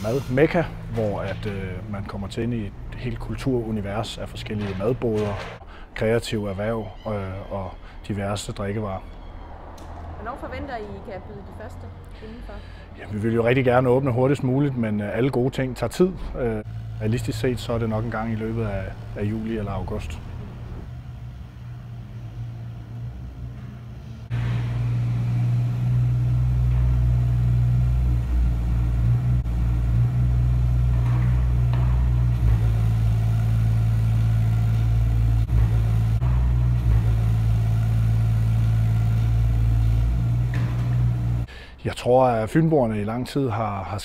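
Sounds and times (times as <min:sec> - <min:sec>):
construction machine engine droning: 0:00.0 - 0:41.8.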